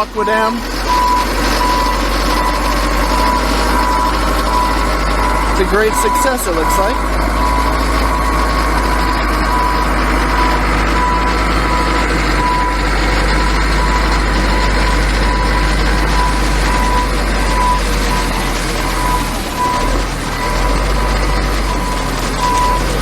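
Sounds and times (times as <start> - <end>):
back-up alarm beeping: 0.0 - 23.0
loader engine running under load: 0.0 - 23.0.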